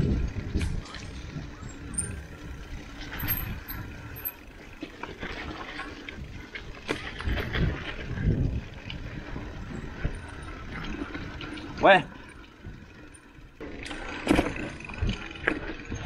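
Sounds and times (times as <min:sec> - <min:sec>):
bike rattling over bumps: 0:00.0 - 0:16.0
bike tyres rumbling on dirt: 0:00.0 - 0:16.0.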